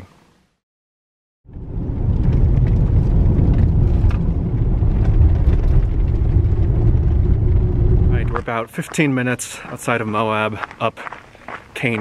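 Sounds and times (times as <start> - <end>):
tyres and engine rumble: 1.5 - 12.0.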